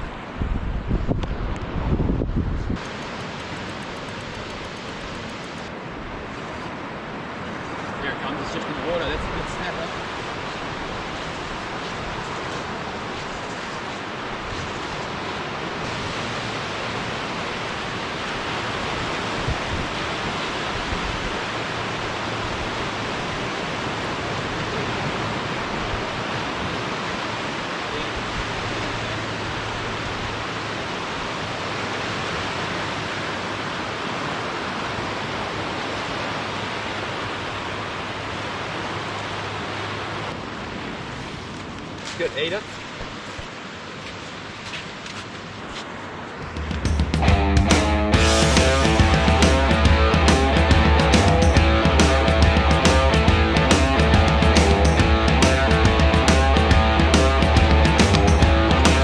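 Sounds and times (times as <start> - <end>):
surf washing on shore: 0.0 - 59.0.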